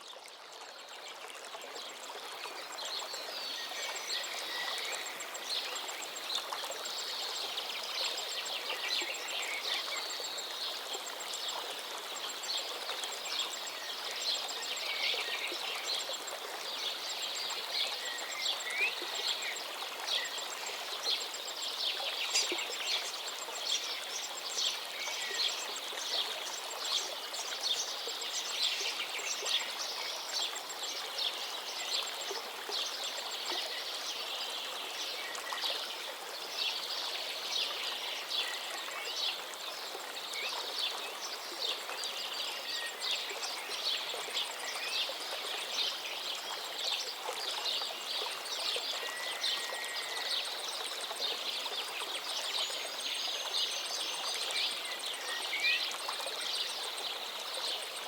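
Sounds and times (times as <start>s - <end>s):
stream flowing: 0.0s - 58.0s
songbirds singing: 2.4s - 58.0s.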